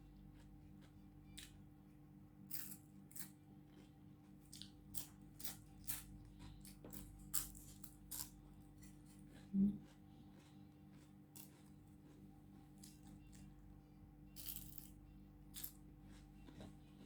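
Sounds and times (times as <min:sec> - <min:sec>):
faint steady hum: 0:00.0 - 0:17.0
crunching crispy bread: 0:02.4 - 0:16.3.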